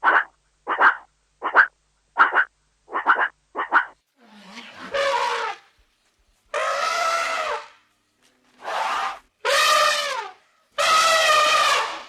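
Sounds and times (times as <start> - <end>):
animal calling: 0.0 - 5.8, 6.5 - 7.8, 8.4 - 12.0.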